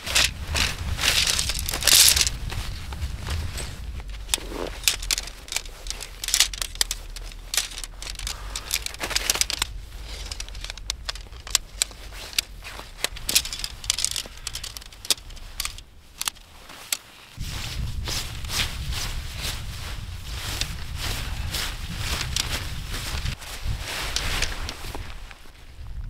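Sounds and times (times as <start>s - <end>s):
tent poles clicking: 0.0s - 25.6s
tent fabric rustling: 0.0s - 26.0s.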